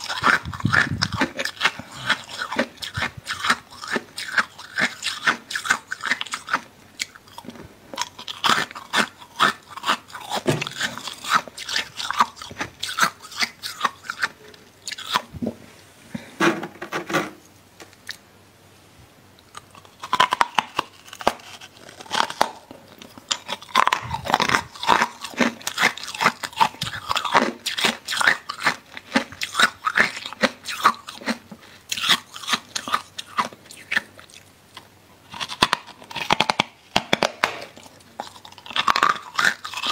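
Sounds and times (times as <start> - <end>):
freezer frost crunching: 0.0 - 15.3, 19.5 - 34.4, 35.3 - 39.9.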